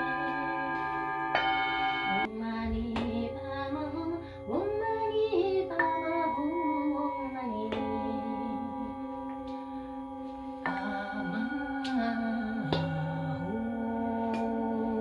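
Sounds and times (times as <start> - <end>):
singing bowls ringing: 0.0 - 15.0
woman singing wordlessly: 2.1 - 15.0.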